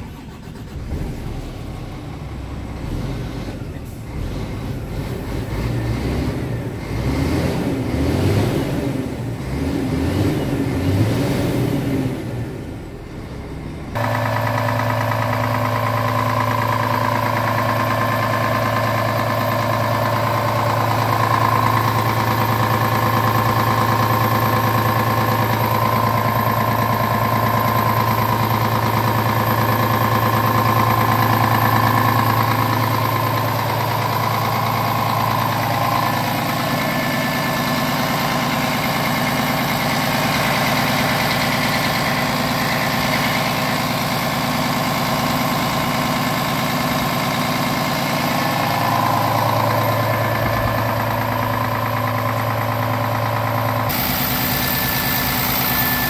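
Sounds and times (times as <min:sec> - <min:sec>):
diesel truck engine idling: 0:00.0 - 0:11.0, 0:12.0 - 0:56.0.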